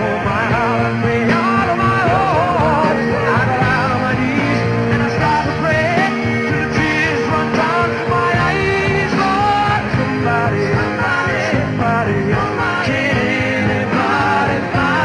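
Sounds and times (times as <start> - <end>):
drums: 0.0 - 15.0
electric guitar: 0.0 - 15.0
person singing: 0.0 - 15.0.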